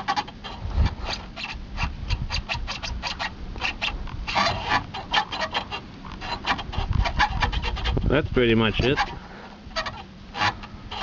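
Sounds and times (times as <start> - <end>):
clicks and scrapes of metal parts: 0.0 - 8.1, 8.7 - 11.0.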